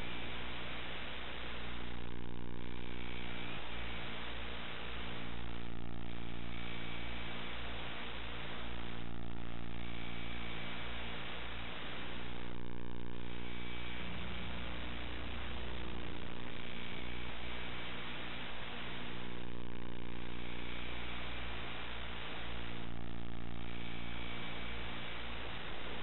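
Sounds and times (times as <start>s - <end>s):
tape hiss and electrical hum: 0.0s - 26.0s.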